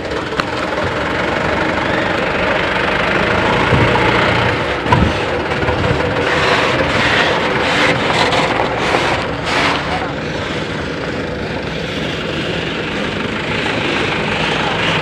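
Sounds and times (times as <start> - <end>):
diesel truck engines droning: 0.0 - 15.0.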